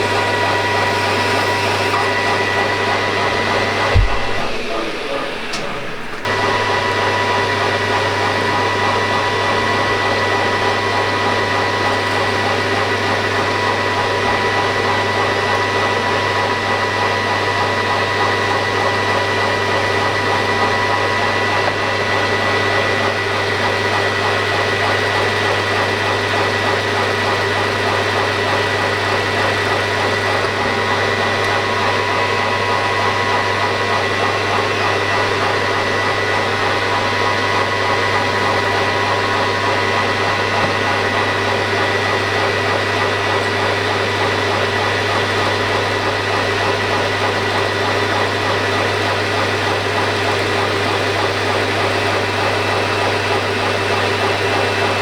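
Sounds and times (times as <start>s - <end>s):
grinder motor whine: 0.0s - 55.0s.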